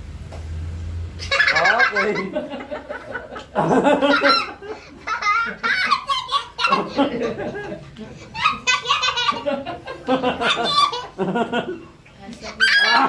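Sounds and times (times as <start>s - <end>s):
people laughing heartily: 1.2s - 12.0s.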